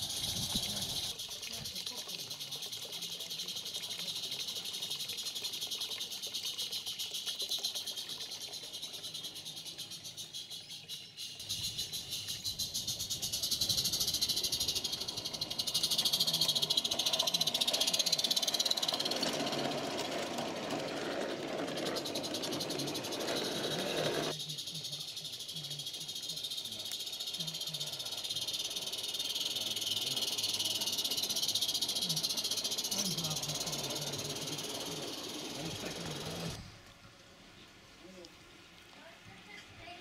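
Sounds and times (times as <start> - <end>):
model steam train hissing and ticking: 0.0 - 10.5, 11.6 - 36.6.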